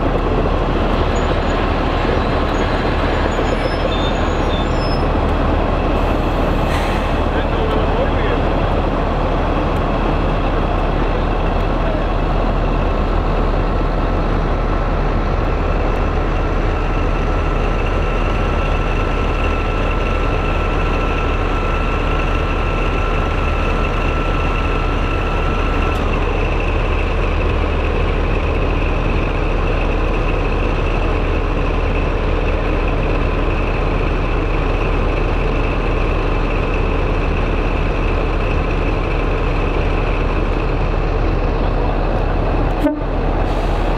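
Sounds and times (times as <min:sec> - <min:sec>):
diesel locomotive engine idling: 0:00.0 - 0:43.9.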